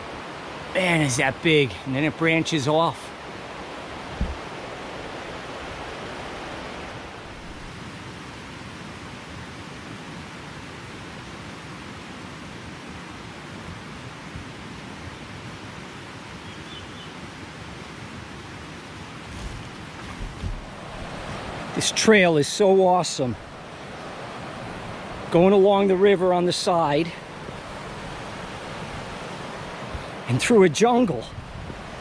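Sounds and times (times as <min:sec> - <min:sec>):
rushing mountain stream: 0:00.0 - 0:32.0.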